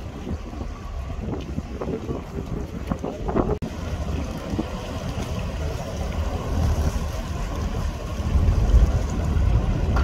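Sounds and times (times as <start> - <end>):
ship engines rumbling: 0.0 - 10.0
wind buffeting microphone: 0.0 - 10.0.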